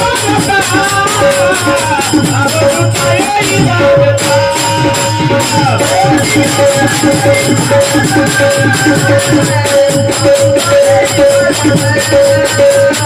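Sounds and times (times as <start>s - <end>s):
jingling percussion: 0.0s - 13.0s
low drum beat: 0.0s - 13.0s
person singing devotional song: 0.0s - 13.0s.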